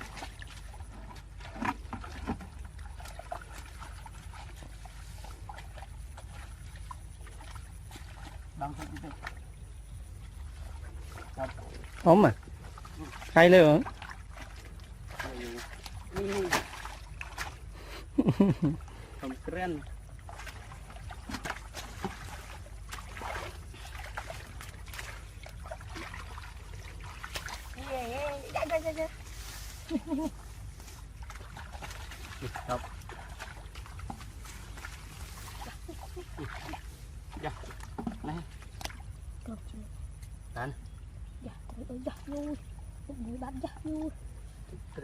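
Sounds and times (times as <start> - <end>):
low steady rumble: 0.0 - 45.0
small water splashes: 0.0 - 45.0
water sloshing and dripping: 0.0 - 45.0.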